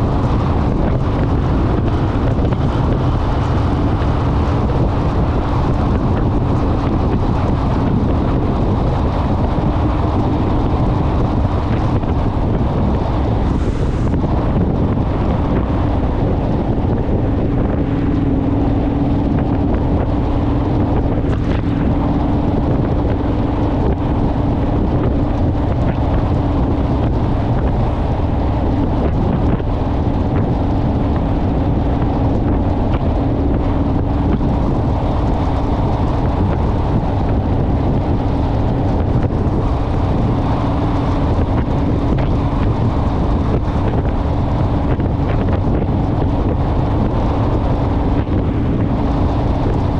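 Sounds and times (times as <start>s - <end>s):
motorcycle engine cruising: 0.0s - 49.9s
wind noise on microphone: 0.0s - 49.9s.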